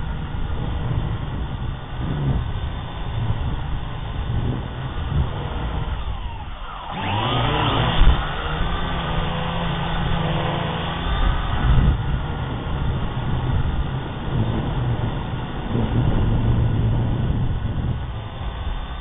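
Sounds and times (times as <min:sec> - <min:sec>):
quadcopter motors buzzing: 0:00.0 - 0:19.0.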